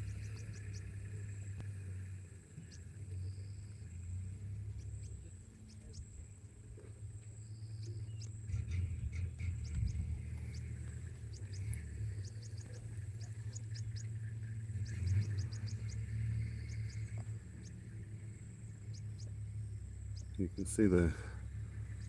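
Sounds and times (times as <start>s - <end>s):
vehicles idling and moving: 0.0s - 22.0s.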